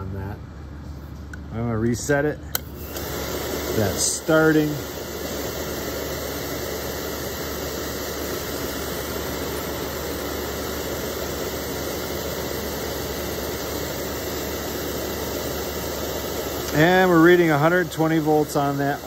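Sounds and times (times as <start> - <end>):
oil burner motor and blower fan: 0.0 - 19.0.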